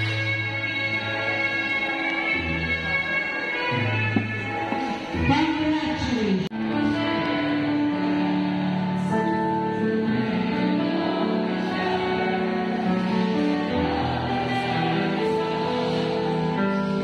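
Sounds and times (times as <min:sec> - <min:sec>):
slow instrumental music: 0:00.0 - 0:17.0.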